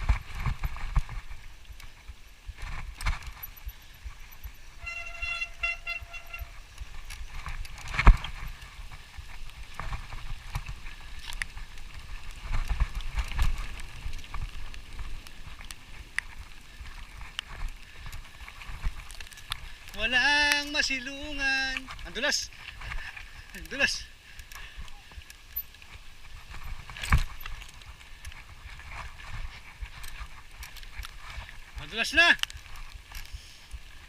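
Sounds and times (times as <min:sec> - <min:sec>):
footsteps on wet trail: 0:00.0 - 0:34.0
wind rumble: 0:00.0 - 0:34.0.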